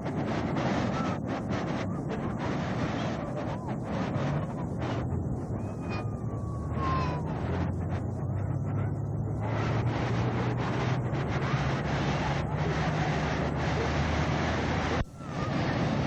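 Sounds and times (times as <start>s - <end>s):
steady low hum: 0.0s - 16.0s
wind on microphone: 0.0s - 16.0s.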